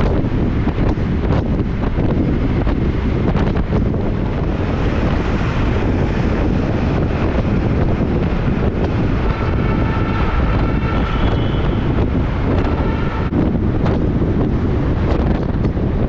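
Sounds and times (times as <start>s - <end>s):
vehicle rumble: 0.0s - 16.0s
wind buffeting microphone: 0.0s - 16.0s.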